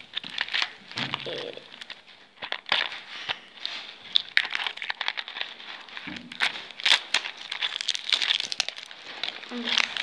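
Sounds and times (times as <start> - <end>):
cellophane wrapper crinkling: 0.0 - 10.0.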